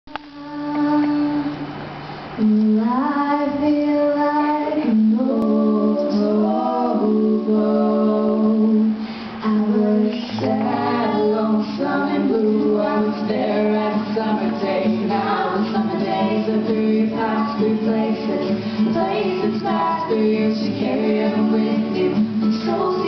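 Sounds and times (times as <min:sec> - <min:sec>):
acoustic guitar: 0:00.1 - 0:23.0
young women singing together: 0:00.2 - 0:23.0.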